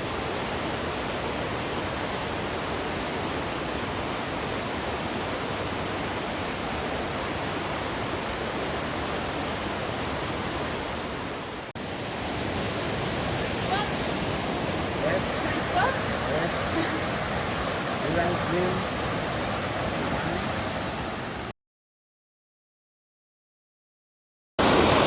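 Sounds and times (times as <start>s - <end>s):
river water rushing: 0.0s - 21.5s, 24.6s - 25.0s.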